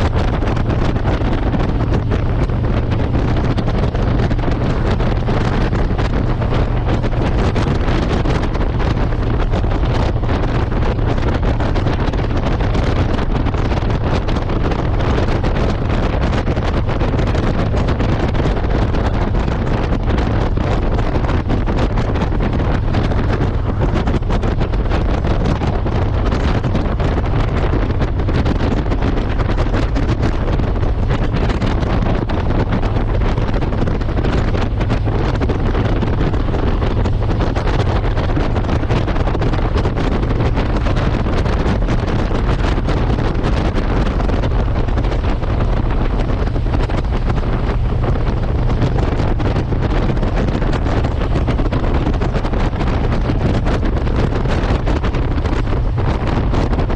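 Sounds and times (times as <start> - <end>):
motorcycle engine: 0.0 - 56.9
road noise: 0.0 - 56.9
wind buffeting microphone: 0.0 - 56.9.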